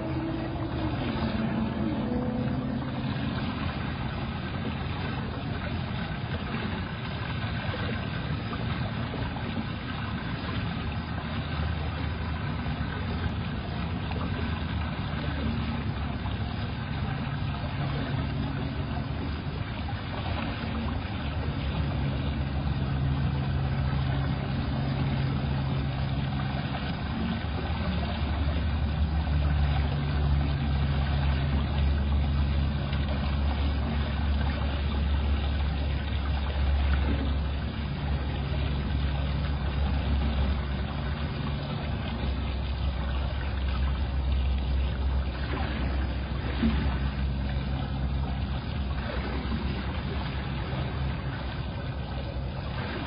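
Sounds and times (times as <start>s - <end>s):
constant hiss: 0.0s - 53.0s
deeper droning tone: 0.0s - 53.0s
low mechanical hum: 0.0s - 53.0s.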